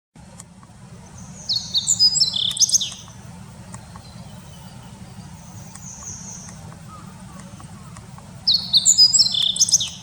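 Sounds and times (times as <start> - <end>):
songbirds chirping: 0.2 - 10.0.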